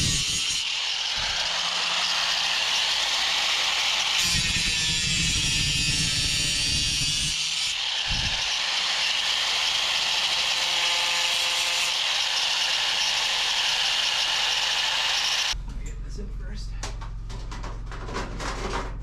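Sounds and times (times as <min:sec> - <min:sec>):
power tool running: 0:00.0 - 0:15.6.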